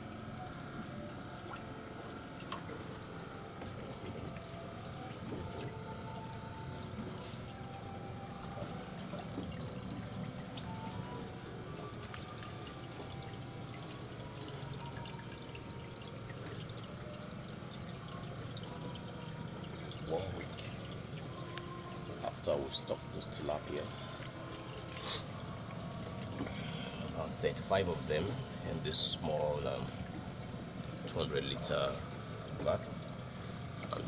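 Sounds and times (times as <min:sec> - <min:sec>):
water pouring into plastic tank: 0:00.6 - 0:34.0.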